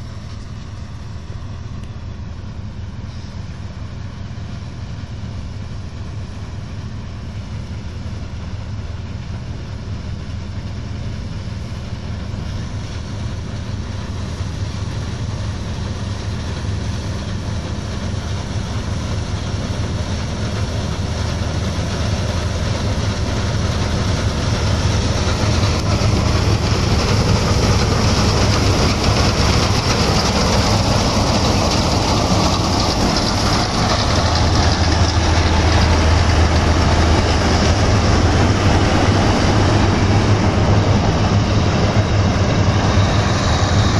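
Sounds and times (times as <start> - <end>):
combine harvester running: 0.0 - 43.9.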